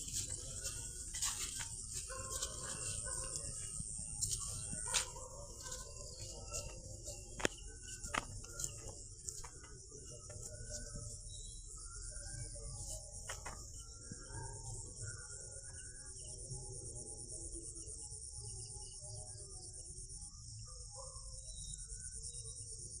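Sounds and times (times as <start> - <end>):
insects chirring: 0.0 - 22.9.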